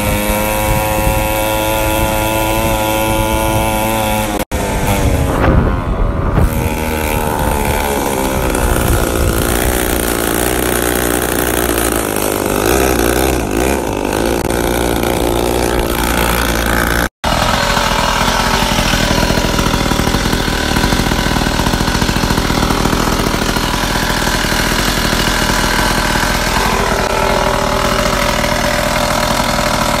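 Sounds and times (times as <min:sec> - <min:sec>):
pocket bike engine running steadily: 0:00.0 - 0:30.0
two-stroke pocket bike engine revving: 0:00.0 - 0:30.0.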